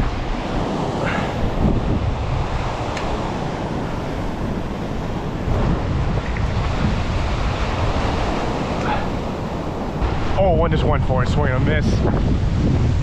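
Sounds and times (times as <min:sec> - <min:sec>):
heavy surf breaking: 0:00.0 - 0:13.0
wind buffeting microphone: 0:00.0 - 0:13.0.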